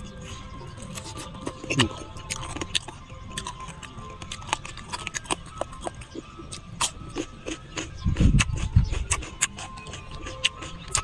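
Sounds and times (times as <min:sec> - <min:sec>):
close chewing and mouth sounds: 0:00.0 - 0:11.0
faint background music: 0:00.0 - 0:11.0.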